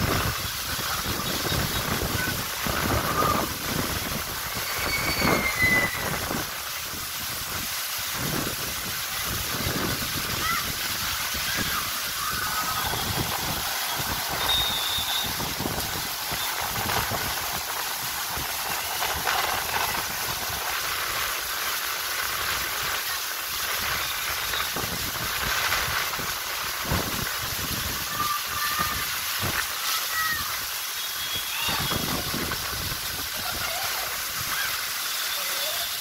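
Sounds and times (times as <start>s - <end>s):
water rushing and spraying: 0.0s - 36.0s.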